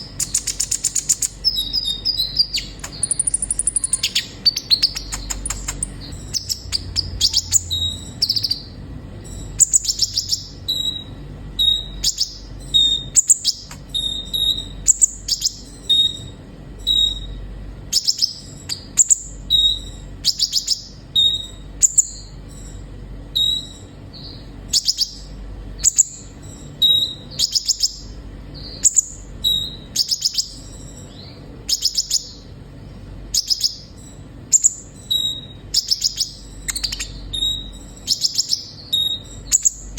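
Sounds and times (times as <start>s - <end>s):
sunbird chirping and twittering: 0.0s - 39.9s.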